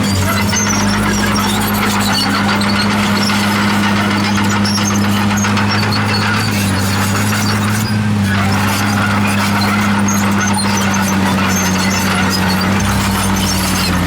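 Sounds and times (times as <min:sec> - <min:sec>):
diesel engine drone: 0:00.0 - 0:14.0
steel tracks squeaking and rattling: 0:00.0 - 0:14.0.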